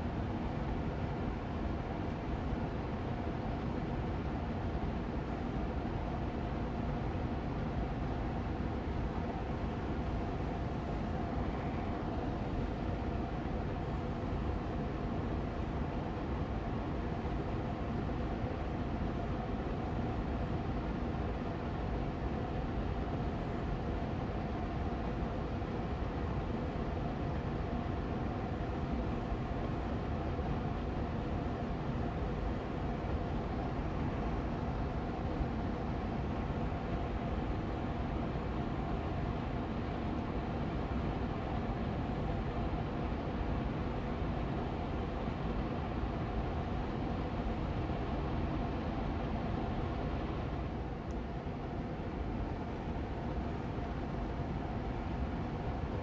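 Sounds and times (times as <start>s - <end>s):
air purifier fan running: 0.0s - 56.0s.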